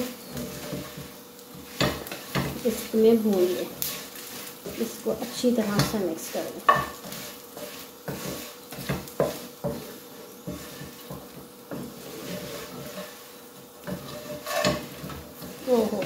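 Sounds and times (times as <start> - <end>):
potatoes sizzling in oil: 0.0 - 16.0
spatula knocking and scraping pan: 0.0 - 16.0.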